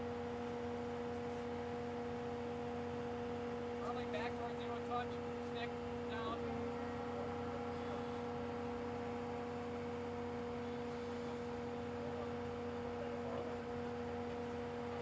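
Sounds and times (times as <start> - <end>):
excavator engine humming: 0.0 - 15.0.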